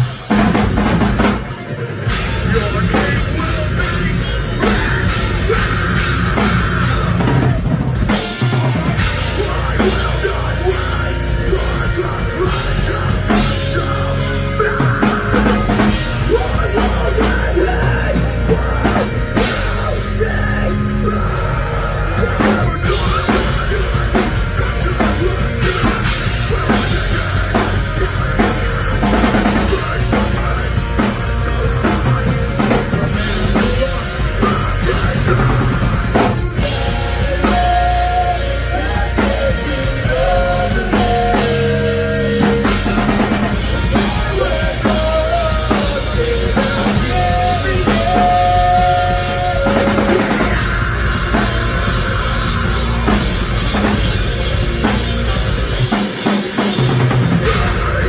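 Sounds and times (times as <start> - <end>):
metal band playing live: 0.0 - 58.0
pounding drum kit: 0.0 - 58.0.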